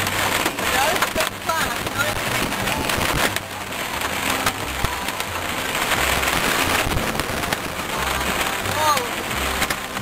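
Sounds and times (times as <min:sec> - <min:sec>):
heavy rain on car windshield: 0:00.0 - 0:10.0
road and engine rumble: 0:00.0 - 0:10.0.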